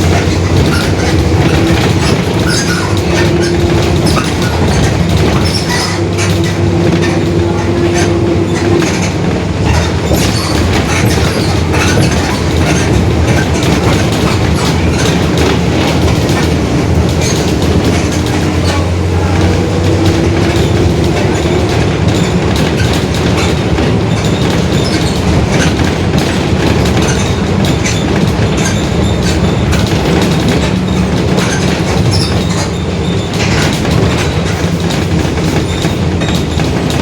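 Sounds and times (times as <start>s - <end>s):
bus body rattling and knocking: 0.0s - 37.0s
bus diesel engine running: 0.0s - 37.0s.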